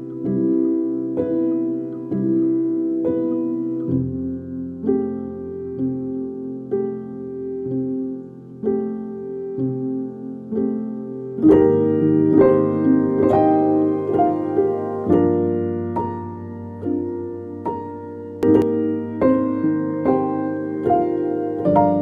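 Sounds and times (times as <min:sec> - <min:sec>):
soft piano melody: 0:00.0 - 0:22.0.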